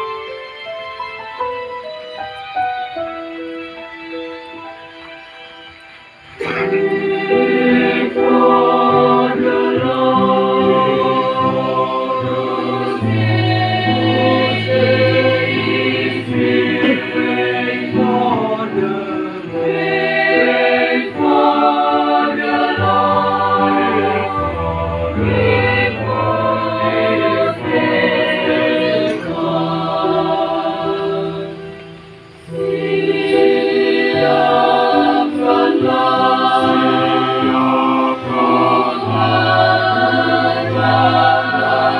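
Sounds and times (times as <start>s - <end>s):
mixed choir singing in parts: 4.2s - 41.9s.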